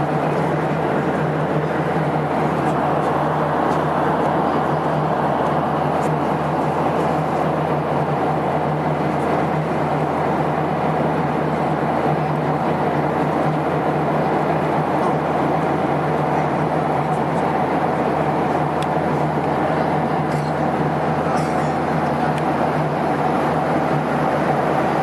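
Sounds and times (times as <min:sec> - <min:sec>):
airplane cabin noise: 0:00.0 - 0:25.0.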